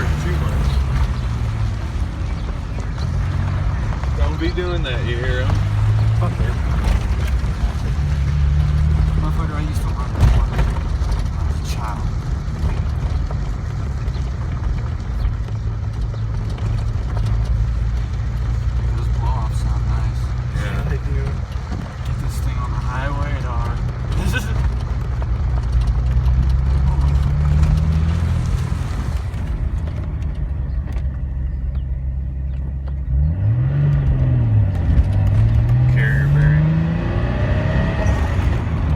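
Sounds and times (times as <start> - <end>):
car engine droning in cabin: 0.0 - 38.9.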